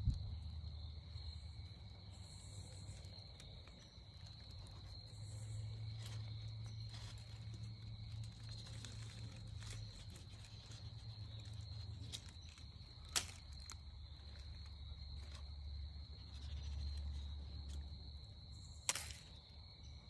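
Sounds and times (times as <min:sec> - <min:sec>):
insects trilling: 0:00.0 - 0:20.0
low outdoor rumble: 0:00.0 - 0:20.0.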